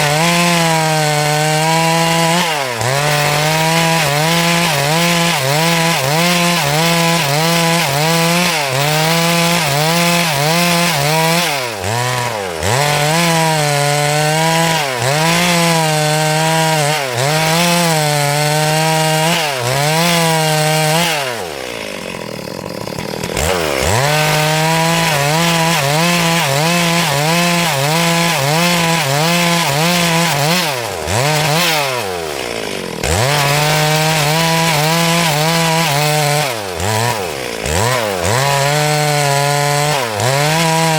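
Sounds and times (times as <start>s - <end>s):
chainsaw cutting through log: 0.0s - 40.9s.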